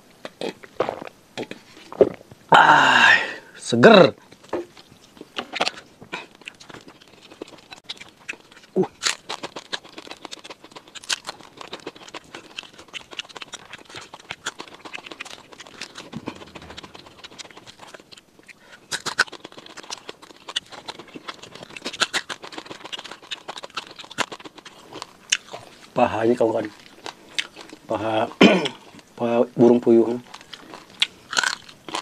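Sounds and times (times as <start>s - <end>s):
close-up chewing and biting: 4.2s - 27.9s, 28.6s - 32.0s.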